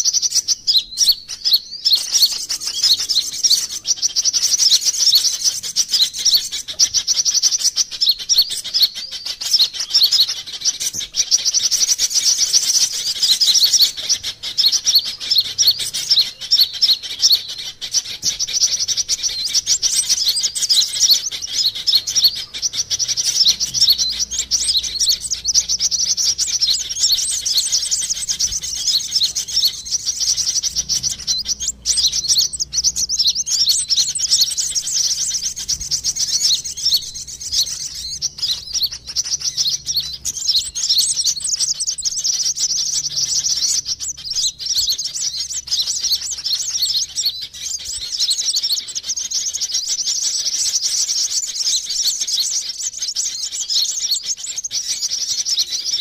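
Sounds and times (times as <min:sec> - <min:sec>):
sunbirds twittering and chirping: 0:00.0 - 0:56.0.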